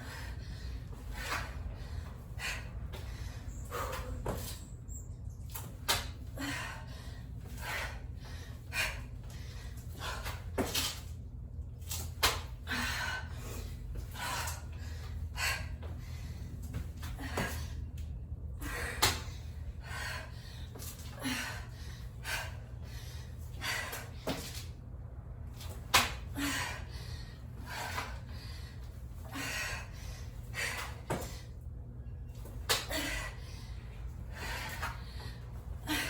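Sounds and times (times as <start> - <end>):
woman breathing hard: 0.0 - 4.6, 5.9 - 10.8, 12.3 - 25.3, 25.9 - 31.9, 32.7 - 36.0
low room hum: 0.0 - 36.0.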